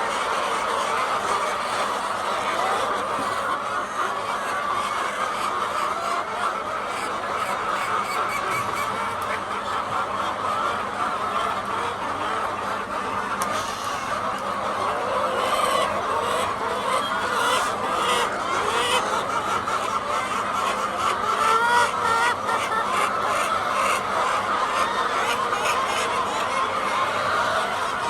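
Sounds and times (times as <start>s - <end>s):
hens clucking and calling: 0.0s - 28.0s.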